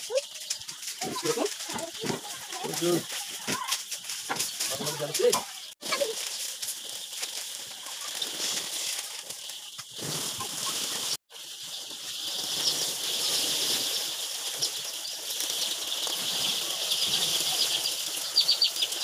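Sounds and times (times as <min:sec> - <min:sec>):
wings flapping: 0:00.0 - 0:19.0.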